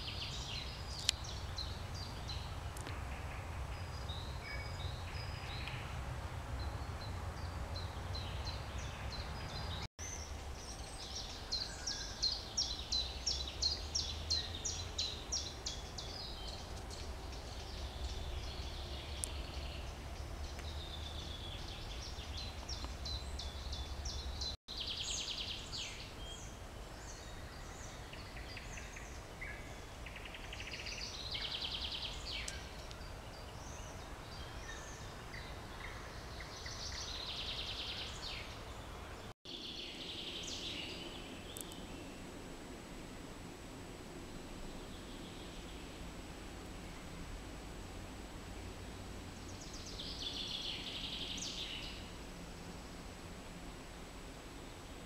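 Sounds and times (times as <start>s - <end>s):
songbirds singing: 0.0s - 42.4s, 44.6s - 47.3s, 48.5s - 53.1s.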